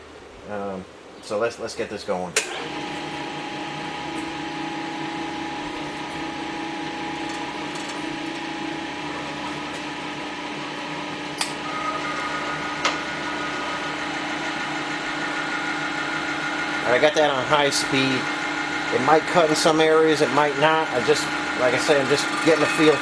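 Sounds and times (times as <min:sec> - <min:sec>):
high machine whine: 0:02.4 - 0:23.0
milling machine humming: 0:02.4 - 0:23.0.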